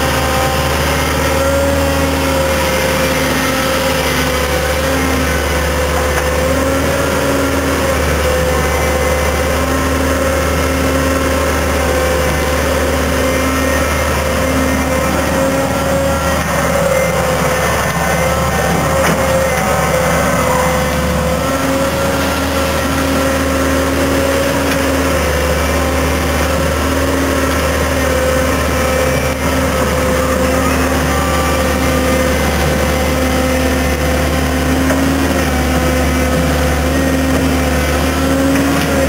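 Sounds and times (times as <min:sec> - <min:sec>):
excavator diesel engine rumbling: 0:00.0 - 0:39.0.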